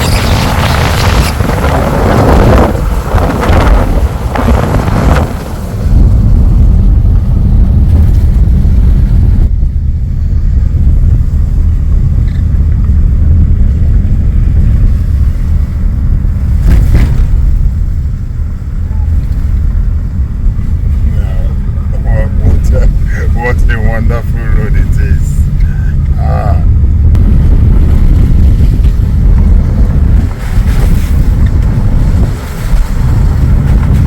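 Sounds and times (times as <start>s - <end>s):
car road rumble: 0.0s - 34.0s
wind buffeting microphone: 0.0s - 34.0s.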